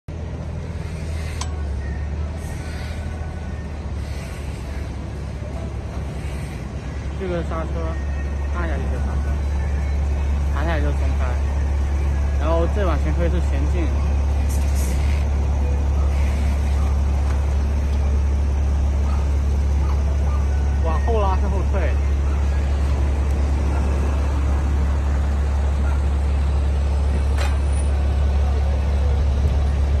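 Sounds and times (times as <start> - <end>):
electric vehicle low hum: 0.1 - 30.0.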